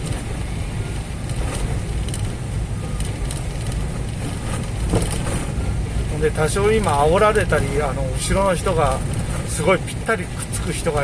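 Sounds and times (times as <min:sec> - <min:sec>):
engine rumble inside vehicle: 0:00.0 - 0:11.0.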